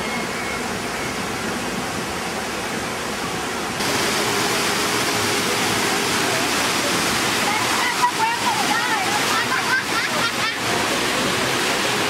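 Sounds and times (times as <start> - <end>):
whitewater churning: 0.0 - 12.0.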